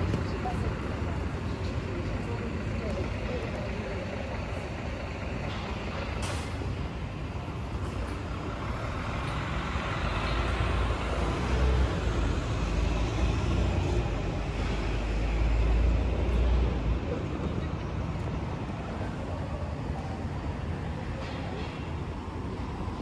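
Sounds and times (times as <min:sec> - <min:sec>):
hum of passing vehicles: 0:00.0 - 0:23.0.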